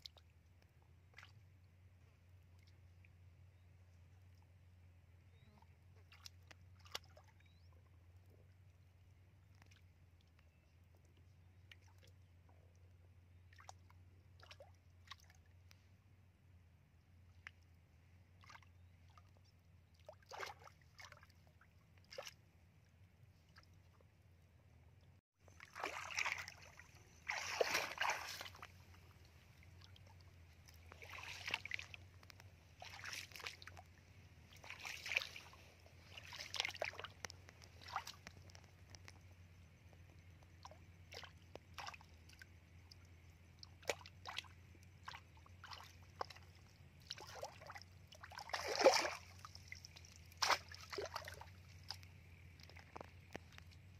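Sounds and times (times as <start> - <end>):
muddy water splashing: 0.0 - 4.9, 5.6 - 16.0, 17.3 - 24.0, 25.4 - 53.9.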